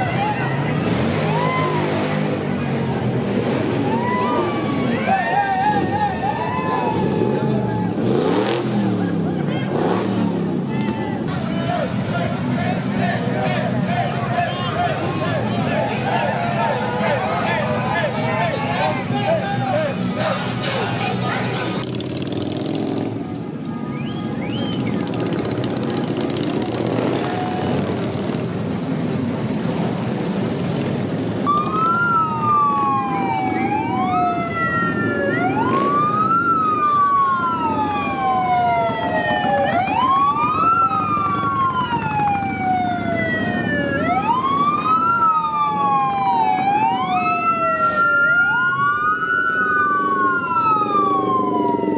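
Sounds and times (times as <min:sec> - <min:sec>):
police sirens wailing: 0:00.0 - 0:51.9.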